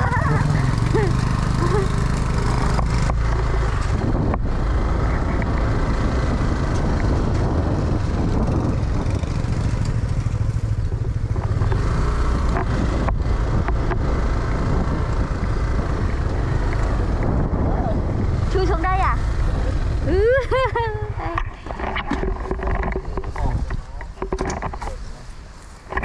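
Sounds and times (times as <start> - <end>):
scooter engine running: 0.0 - 23.7
heavy low rumble: 0.0 - 25.3.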